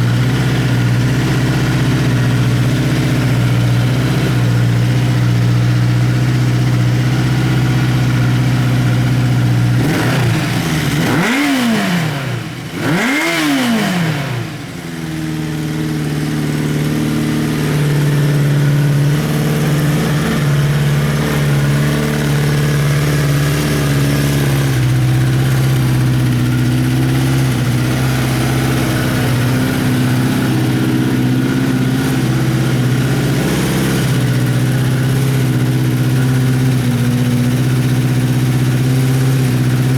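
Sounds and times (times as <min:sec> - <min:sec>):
engine revving: 0:00.0 - 0:39.9
motorcycle engine idling: 0:00.0 - 0:39.9.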